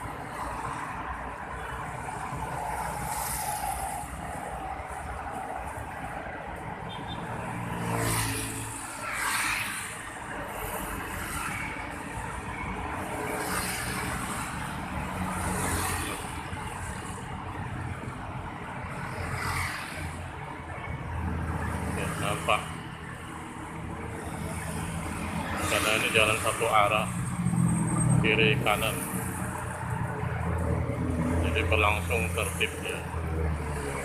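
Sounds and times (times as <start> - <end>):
road traffic hum: 0.0 - 34.0
vehicles passing by: 0.0 - 34.0.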